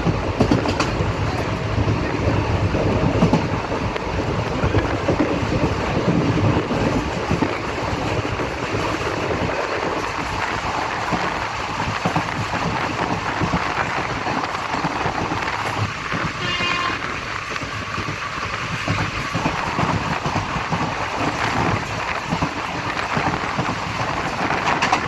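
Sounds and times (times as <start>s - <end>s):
train rumbling and rattling: 0.0s - 25.0s.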